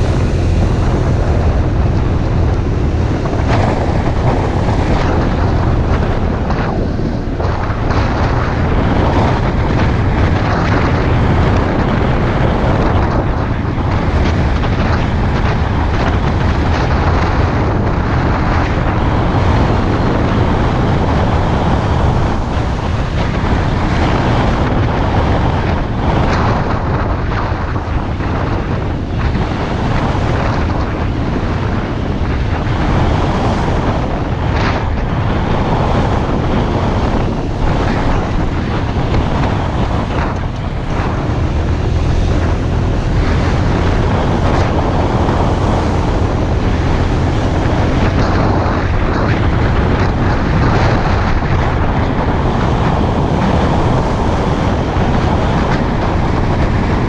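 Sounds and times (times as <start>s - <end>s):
road noise: 0.0s - 57.0s
scooter engine: 0.0s - 57.0s
wind buffeting microphone: 0.0s - 57.0s.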